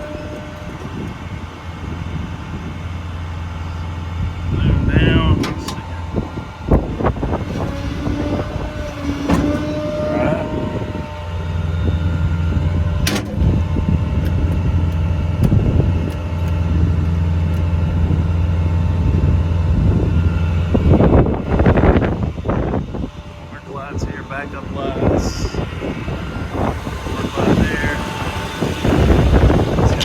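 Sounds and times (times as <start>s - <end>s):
truck engine droning: 0.0s - 30.0s
whine changing pitch: 0.0s - 30.0s.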